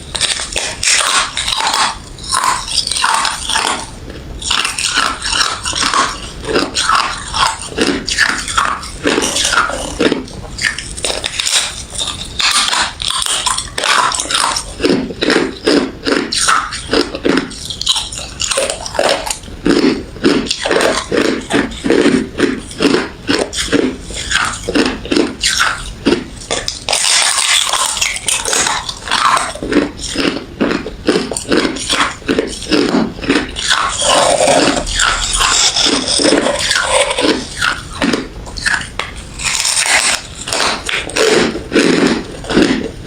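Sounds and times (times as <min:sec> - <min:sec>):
person crunching ice: 0:00.0 - 0:42.9.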